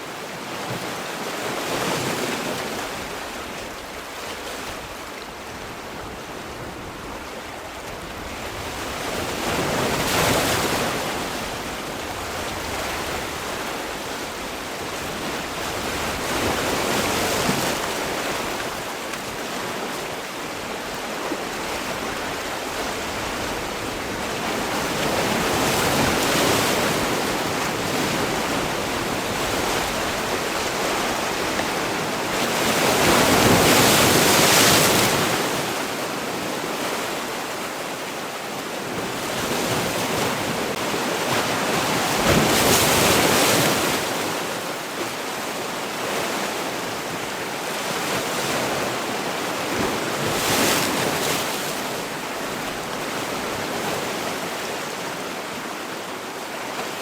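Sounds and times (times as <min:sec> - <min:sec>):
waves breaking: 0:00.0 - 0:57.0.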